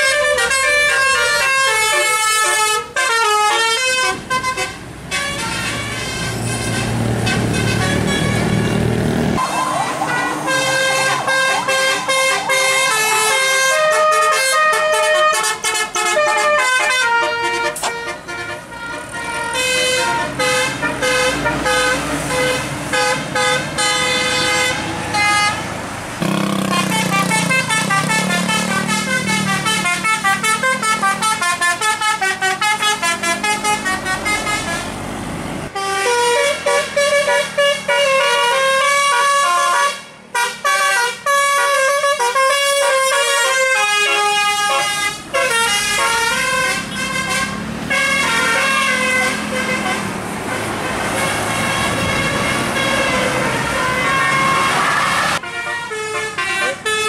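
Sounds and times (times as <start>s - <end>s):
bus musical horns playing tunes: 0.0s - 57.0s.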